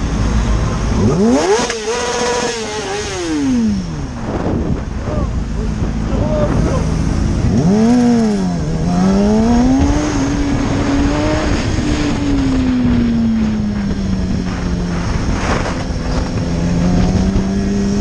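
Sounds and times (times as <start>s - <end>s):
motorcycle engine: 0.0s - 18.0s
wind rushing over microphone: 0.0s - 18.0s.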